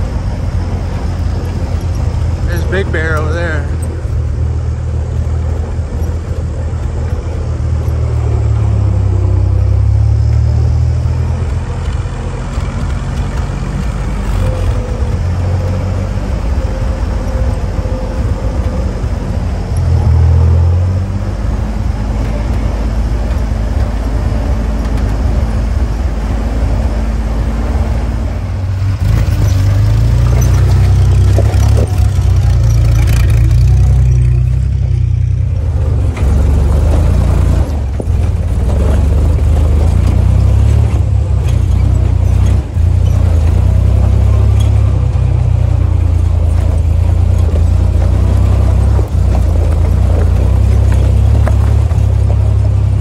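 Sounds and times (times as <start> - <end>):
jeep engine running: 0.0 - 53.0.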